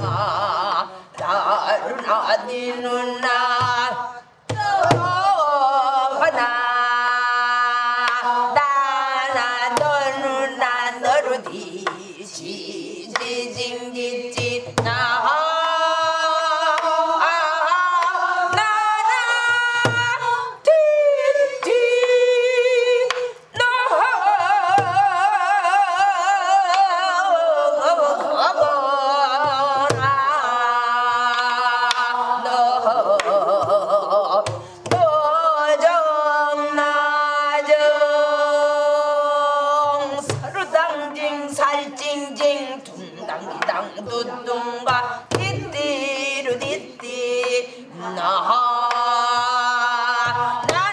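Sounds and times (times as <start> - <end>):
woman singing with vibrato: 0.0 - 50.9.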